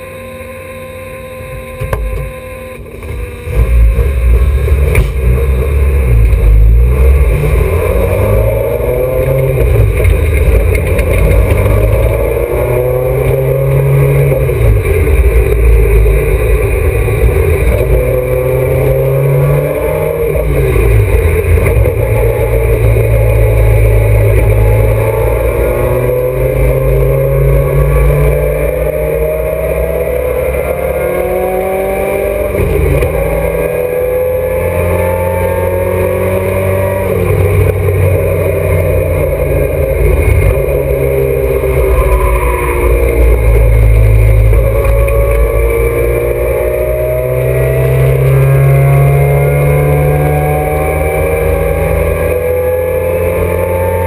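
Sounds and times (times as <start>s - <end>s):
racing car engine through gears: 0.0s - 54.0s.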